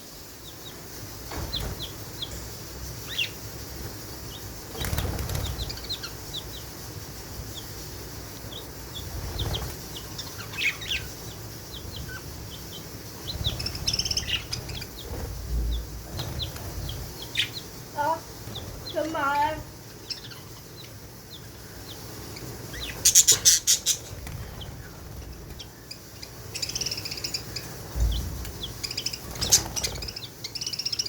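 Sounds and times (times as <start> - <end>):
wing flapping and rustling: 0.7 - 20.0, 22.0 - 30.5
budgerigars chirping: 3.0 - 3.4, 4.3 - 6.8, 7.4 - 31.0.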